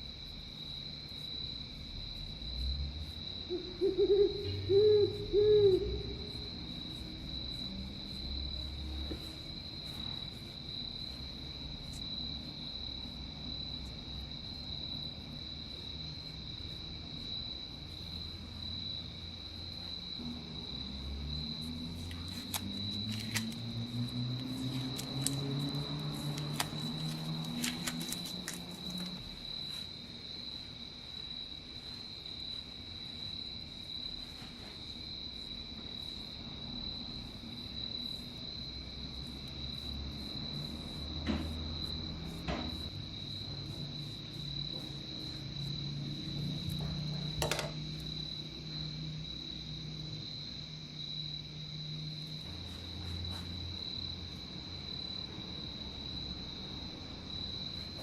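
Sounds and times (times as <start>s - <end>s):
insect trill: 0.0s - 58.0s.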